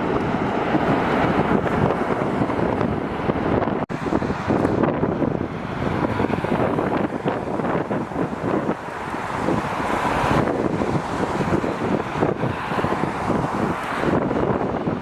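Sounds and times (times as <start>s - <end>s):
jet engine rush: 0.0s - 15.0s
wind buffeting microphone: 0.0s - 15.0s.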